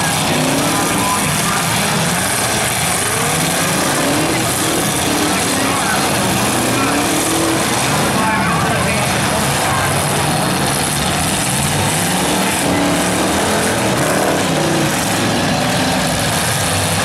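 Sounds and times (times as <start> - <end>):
car engines running and revving: 0.0 - 17.0.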